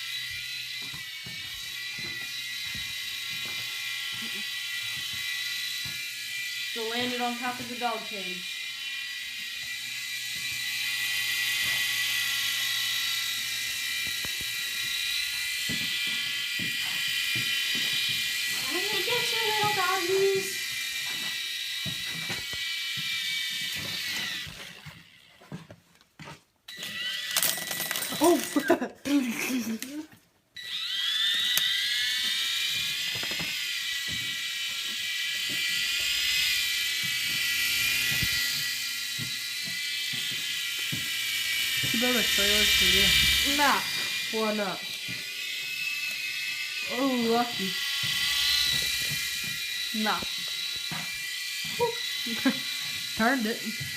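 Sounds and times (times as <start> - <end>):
toy helicopter motor whining: 0.0 - 25.8, 26.7 - 53.9.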